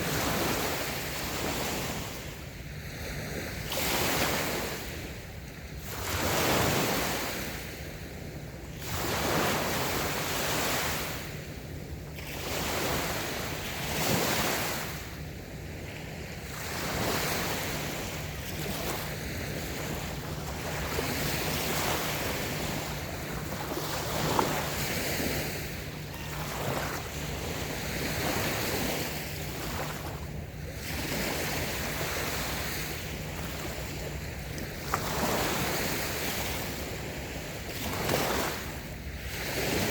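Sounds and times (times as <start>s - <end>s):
gentle waves washing on sand: 0.0s - 39.9s.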